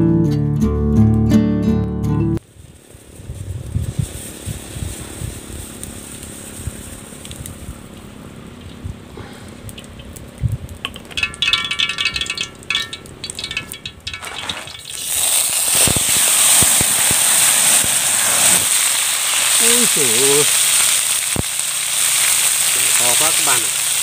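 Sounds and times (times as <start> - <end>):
hot oil sizzling and spattering: 2.4 - 7.8, 9.5 - 24.0
crackling pops: 3.6 - 24.0.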